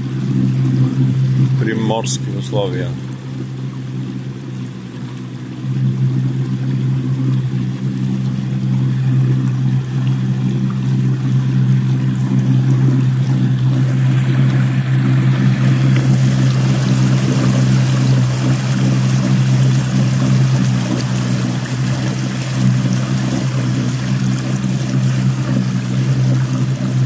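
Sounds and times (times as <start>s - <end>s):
electric motor hum: 0.0s - 27.0s
water rushing and churning: 0.0s - 27.0s.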